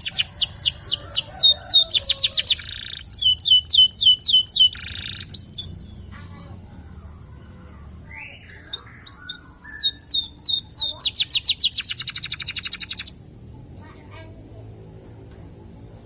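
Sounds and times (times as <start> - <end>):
canary singing whistles and trills: 0.0 - 13.2.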